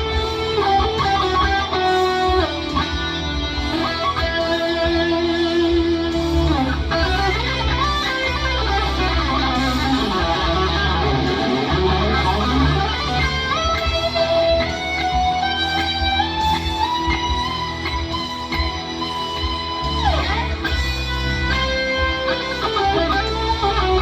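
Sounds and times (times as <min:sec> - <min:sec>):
electric guitar lead: 0:00.0 - 0:24.0.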